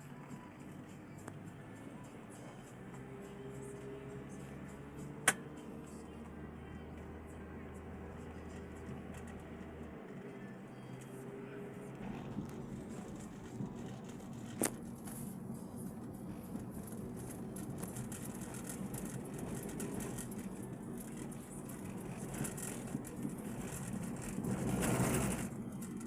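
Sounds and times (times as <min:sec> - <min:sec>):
car engine humming: 0:00.0 - 0:26.0.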